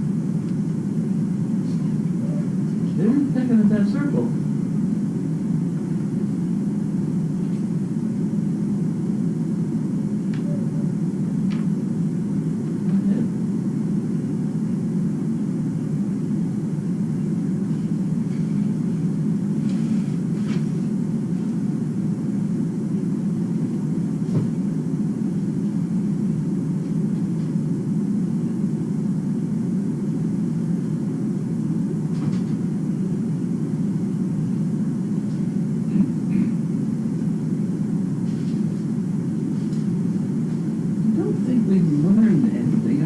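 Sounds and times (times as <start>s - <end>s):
low background rumble: 0.0s - 43.0s.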